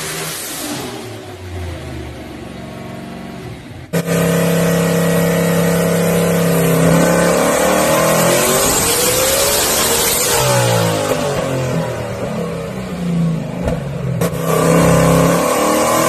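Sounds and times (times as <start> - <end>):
drag car engine idling and revving: 0.0 - 16.0.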